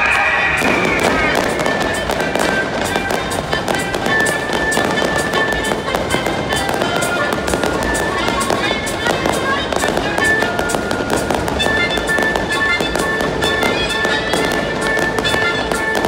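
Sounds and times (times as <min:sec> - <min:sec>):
fireworks cracking and popping: 0:00.0 - 0:16.0
music with long held notes: 0:00.0 - 0:16.0.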